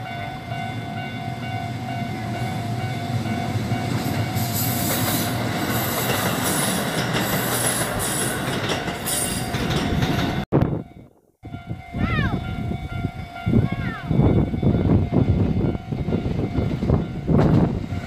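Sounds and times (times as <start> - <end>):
crossing warning bell ringing: 0.0 - 18.0
electric train passing: 0.0 - 18.0.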